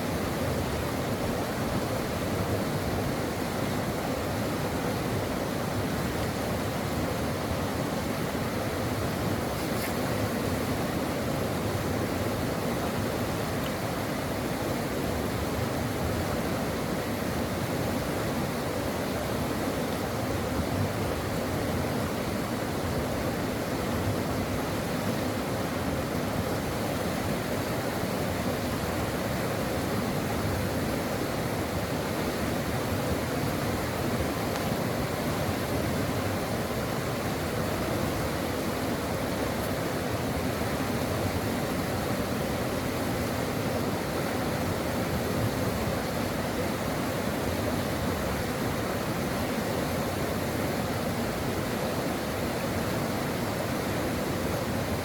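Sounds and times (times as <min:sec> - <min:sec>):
brook water running: 0:00.0 - 0:55.0.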